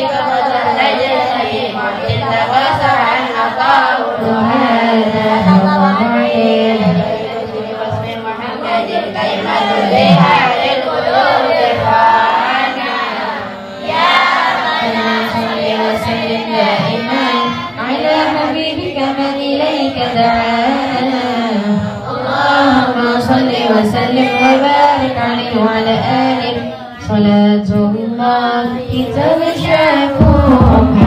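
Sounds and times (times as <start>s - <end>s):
voices singing devotional song: 0.0s - 31.0s.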